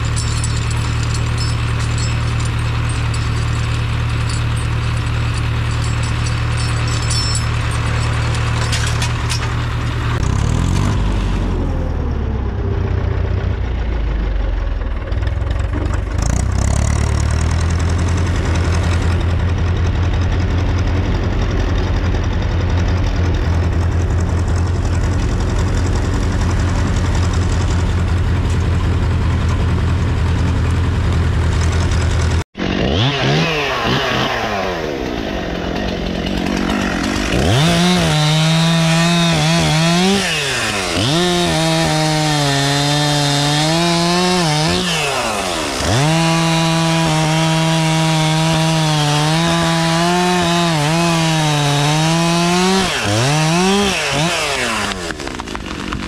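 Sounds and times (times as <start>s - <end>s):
chainsaw cutting log: 0.0s - 11.4s, 15.6s - 56.0s
tractor diesel engine running: 0.0s - 32.5s, 33.8s - 56.0s.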